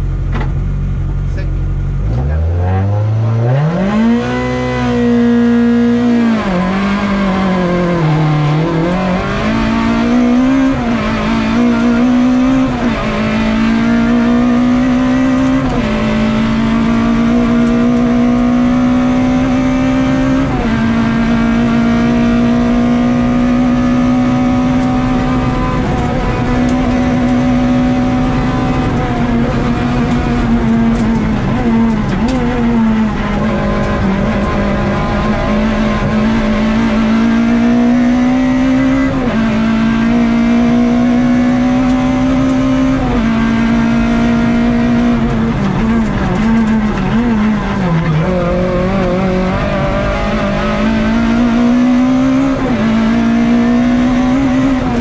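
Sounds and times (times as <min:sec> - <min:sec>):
car engine revving at full effort: 0:00.0 - 0:55.0.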